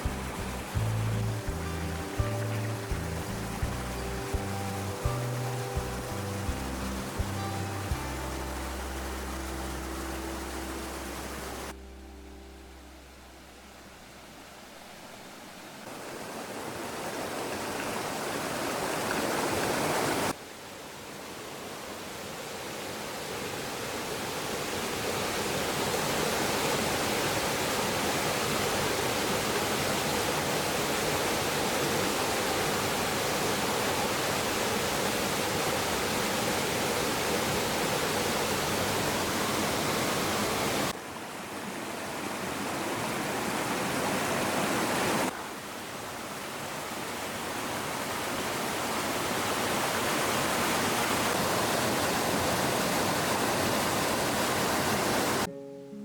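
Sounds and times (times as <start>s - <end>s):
water rushing: 0.0s - 55.5s.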